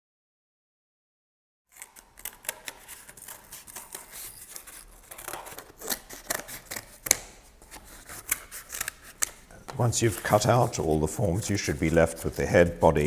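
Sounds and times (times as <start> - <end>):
scissors cutting cardboard: 1.7 - 13.0.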